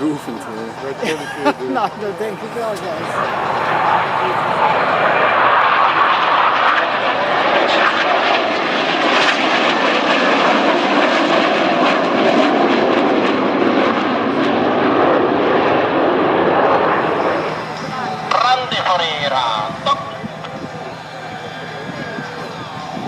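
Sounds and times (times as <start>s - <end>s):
jet fighters flying past: 0.0s - 23.0s.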